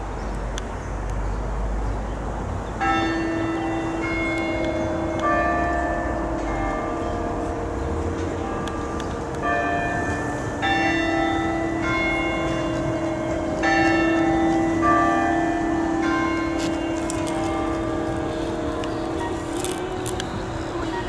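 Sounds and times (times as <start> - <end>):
bells ringing: 2.8 - 21.0.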